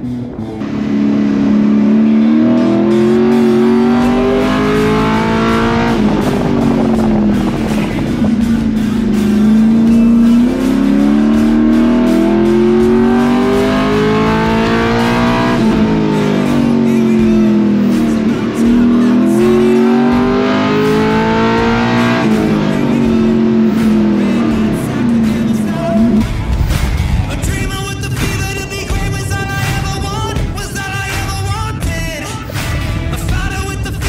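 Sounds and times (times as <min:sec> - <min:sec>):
truck engine revving: 0:00.0 - 0:34.0.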